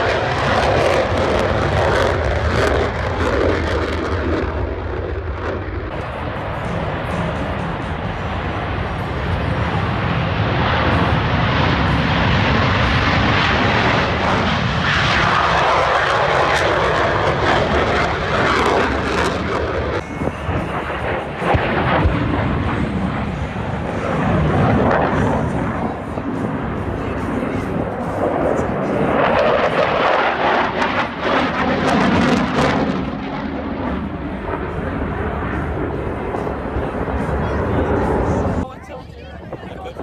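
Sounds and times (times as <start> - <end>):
airplane passing overhead: 0.0 - 40.0.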